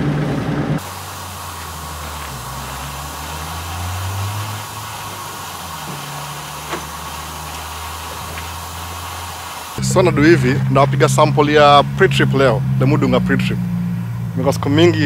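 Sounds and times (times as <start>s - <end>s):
diesel truck engine idling: 0.2s - 15.0s.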